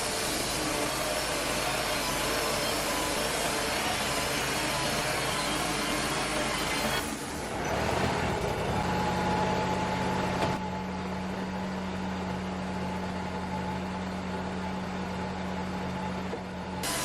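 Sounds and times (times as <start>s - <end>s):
sawmill engine humming: 0.0s - 17.0s.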